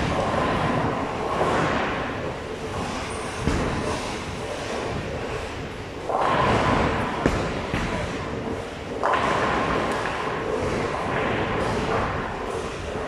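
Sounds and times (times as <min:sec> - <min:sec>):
bowling alley din: 0:00.0 - 0:13.0
bowling ball thudding and rolling: 0:00.0 - 0:13.0.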